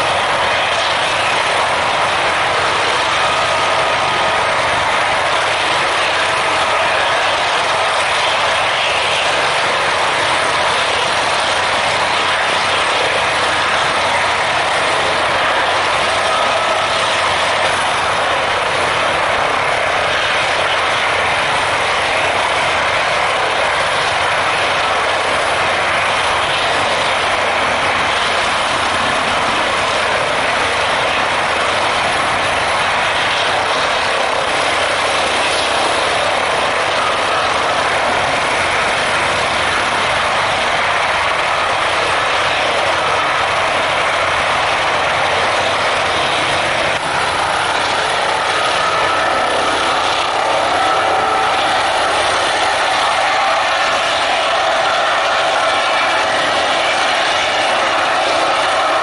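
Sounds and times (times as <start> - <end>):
helicopter hovering: 0.0 - 59.0.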